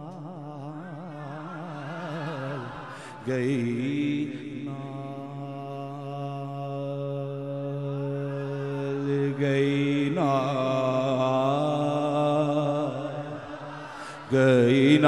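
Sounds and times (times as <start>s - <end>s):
man singing unaccompanied: 0.0s - 13.4s, 14.2s - 15.0s.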